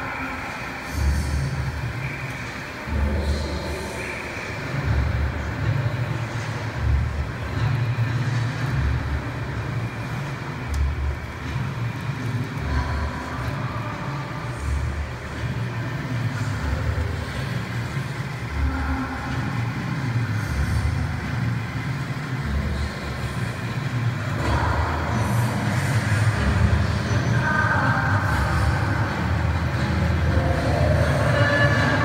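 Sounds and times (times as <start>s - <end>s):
muffled music with pulsing bass: 0.0s - 32.0s.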